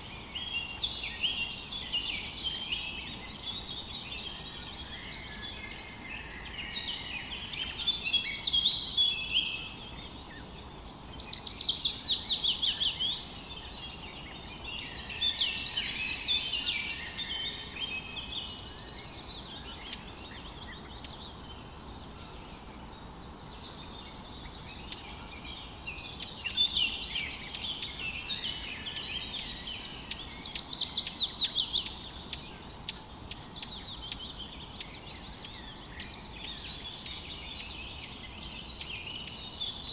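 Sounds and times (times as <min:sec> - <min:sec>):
faint steady outdoor hiss: 0:00.0 - 0:39.9
songbirds chirping and trilling: 0:00.0 - 0:39.9.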